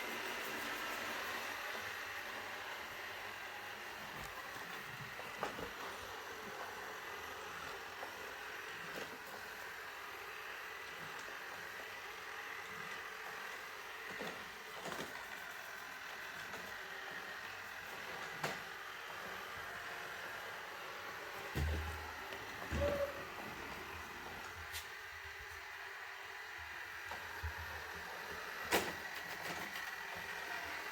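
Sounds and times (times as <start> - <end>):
robot vacuum whirring hum: 0.0 - 30.9.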